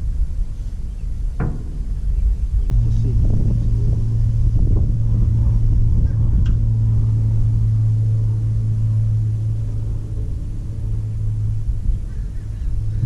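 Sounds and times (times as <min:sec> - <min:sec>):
excavator diesel engine droning: 0:01.4 - 0:13.0.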